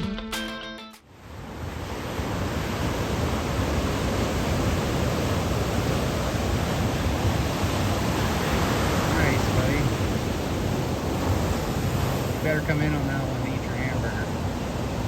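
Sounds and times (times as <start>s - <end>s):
surf: 0.0s - 15.0s.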